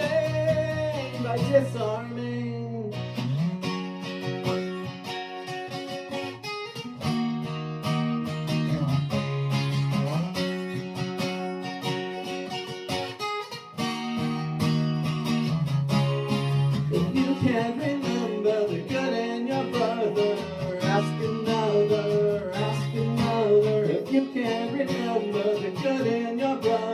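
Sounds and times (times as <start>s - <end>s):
guitar strummed and picked: 0.0s - 26.9s.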